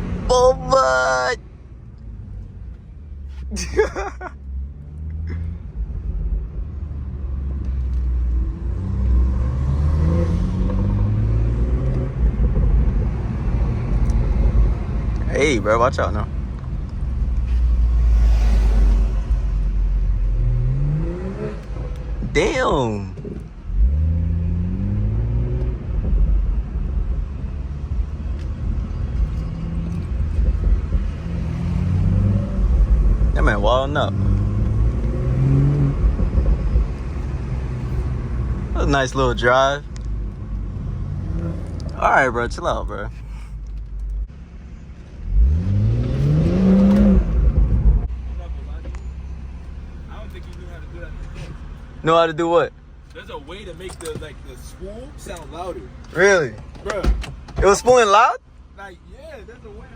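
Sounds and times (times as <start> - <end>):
car engine accelerating hard: 3.3 - 43.2, 45.0 - 59.9.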